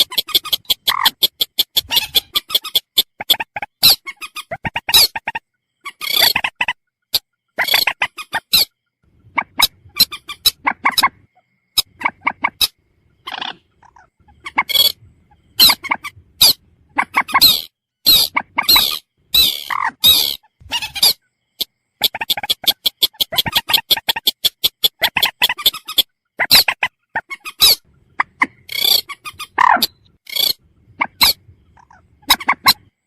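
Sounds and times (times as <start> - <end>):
moorhen calling: 0.0 - 33.0.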